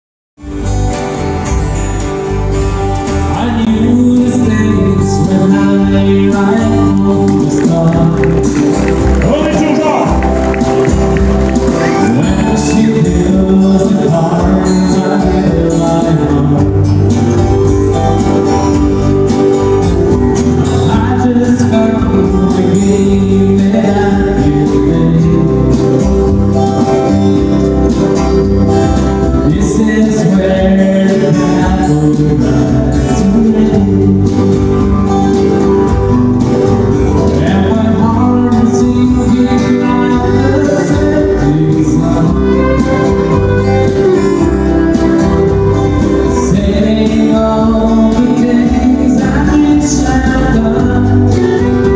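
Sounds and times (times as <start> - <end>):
strummed acoustic guitar: 0.4 - 51.9
man singing: 3.2 - 27.2, 28.9 - 36.2, 37.1 - 51.9.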